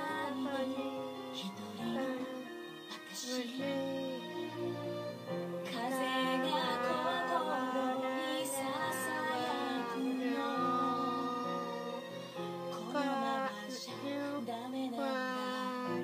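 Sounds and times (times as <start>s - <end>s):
woman singing: 0.0s - 5.0s, 5.7s - 12.1s, 12.7s - 16.0s
held instrument notes: 0.0s - 16.0s.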